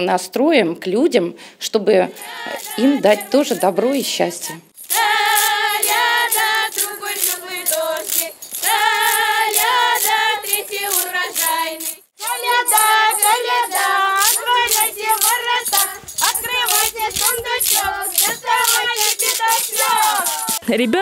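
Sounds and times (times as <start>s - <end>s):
women and children singing: 2.0s - 20.7s
rhythmic jingling: 2.1s - 20.7s.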